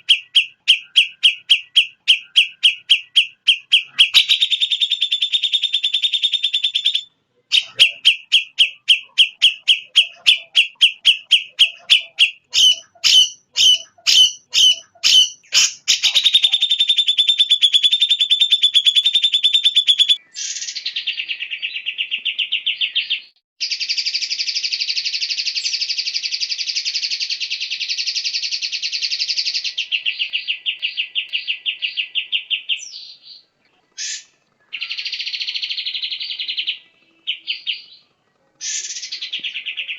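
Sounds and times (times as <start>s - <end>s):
recorded songbird song: 0.0s - 39.9s.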